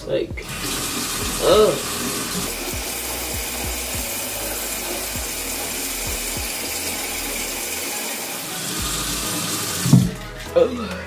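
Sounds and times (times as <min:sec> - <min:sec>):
toothbrush scrubbing teeth: 0:00.4 - 0:10.2.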